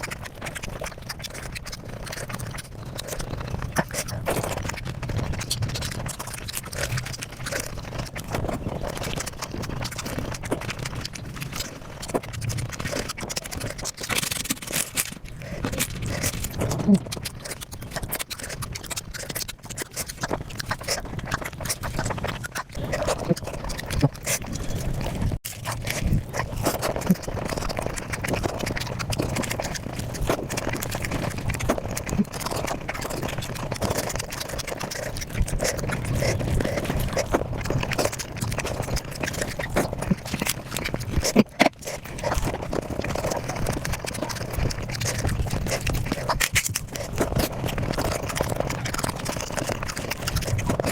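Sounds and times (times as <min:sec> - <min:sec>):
sped-up chewing and mouth sounds: 0:00.0 - 0:50.9.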